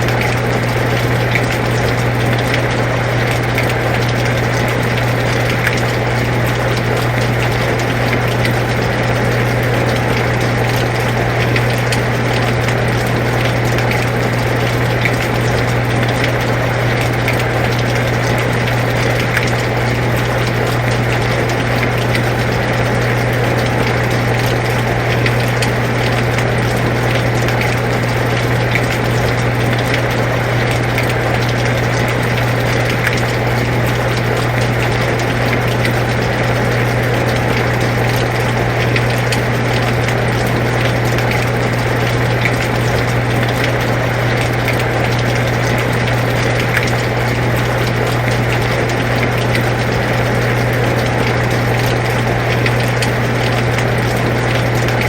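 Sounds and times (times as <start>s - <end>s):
air conditioner humming: 0.0s - 55.0s
faint water drips: 0.0s - 55.0s
steady rain: 0.0s - 55.0s.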